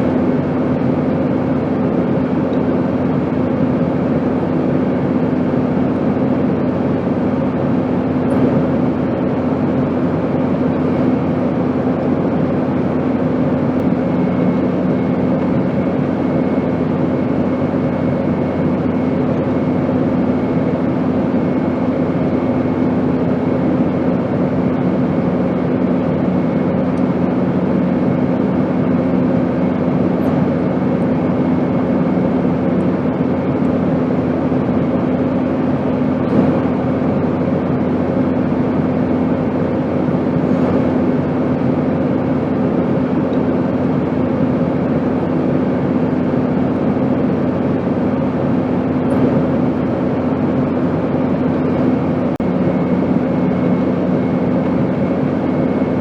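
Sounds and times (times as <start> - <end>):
airplane drone: 0.0 - 56.0.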